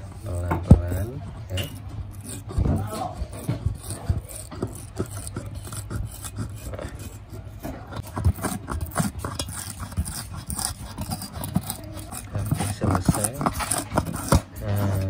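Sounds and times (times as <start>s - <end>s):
screwdriver scraping glue: 0.0s - 15.0s.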